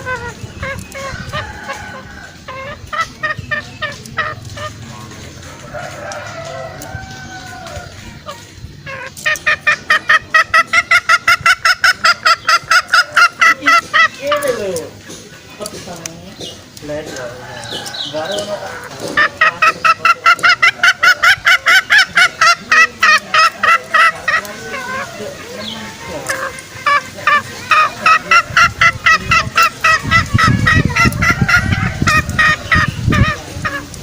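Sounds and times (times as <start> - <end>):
bird lure clucking calls: 0.0 - 34.0.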